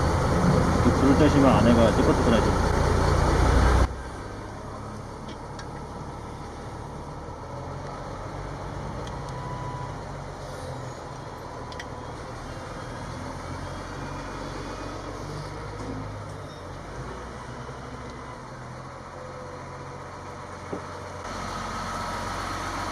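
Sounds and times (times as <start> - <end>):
truck engine humming: 0.0 - 22.9.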